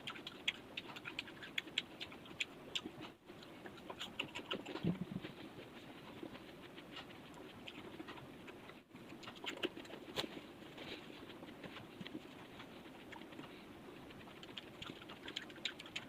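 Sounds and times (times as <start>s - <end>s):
person chewing crisp fruit: 0.0s - 16.0s.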